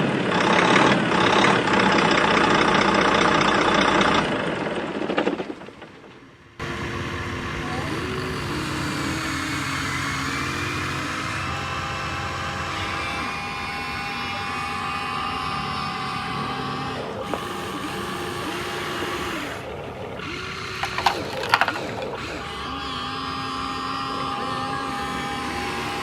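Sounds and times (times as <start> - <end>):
toy excavator motors whining: 0.0 - 26.0.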